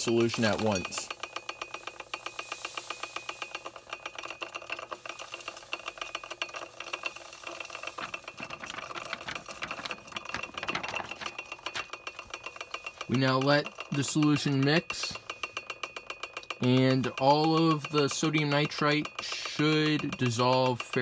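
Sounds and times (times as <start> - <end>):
stir bar rattling in glass beaker: 0.0 - 21.0.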